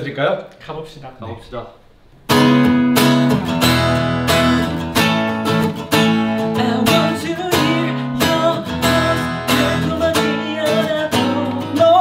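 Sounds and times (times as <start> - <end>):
acoustic guitar strumming: 2.3 - 12.0.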